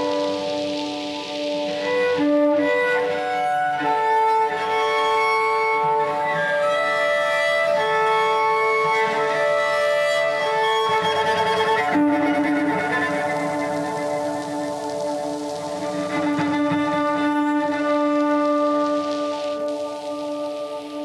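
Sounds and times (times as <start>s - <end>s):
bowed cello slow music: 0.0s - 21.0s.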